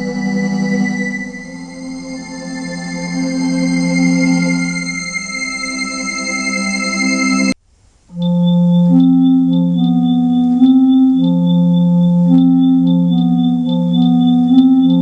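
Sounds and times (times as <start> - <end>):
electronic keyboard chord: 0.0 - 15.0
sustained low keyboard notes: 0.0 - 15.0.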